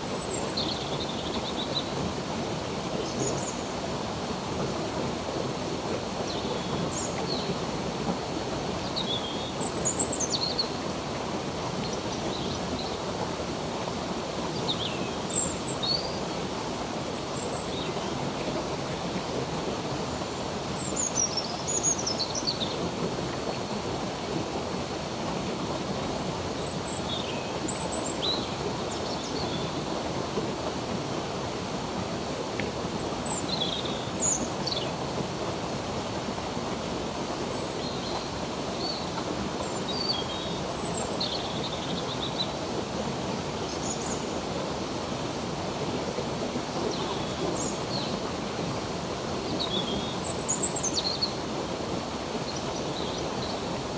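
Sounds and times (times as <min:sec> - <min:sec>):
stream water rushing: 0:00.0 - 0:53.9.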